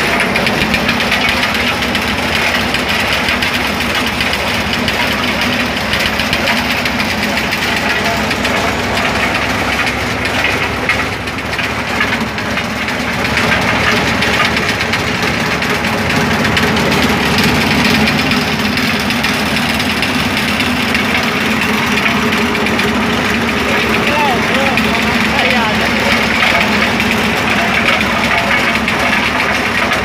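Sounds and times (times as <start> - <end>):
corn sheller machine running: 0.0 - 30.0.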